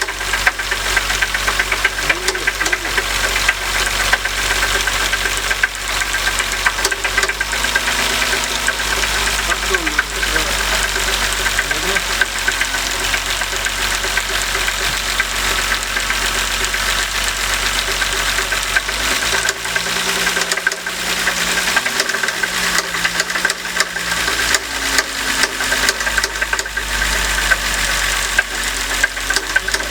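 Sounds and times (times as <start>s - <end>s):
car engine running: 0.0s - 29.9s
rapid engine ticking knock: 0.0s - 29.9s.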